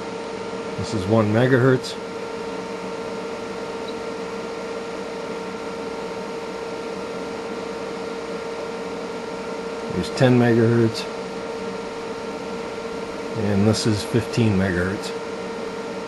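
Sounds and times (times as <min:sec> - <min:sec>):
electronic equipment hum and whine: 0:00.0 - 0:16.0.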